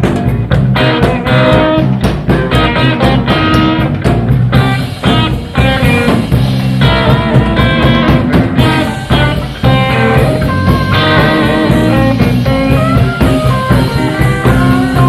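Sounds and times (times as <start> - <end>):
blues-rock band playing: 0.0 - 15.0
drum hits: 0.0 - 15.0
electric guitar: 0.0 - 15.0.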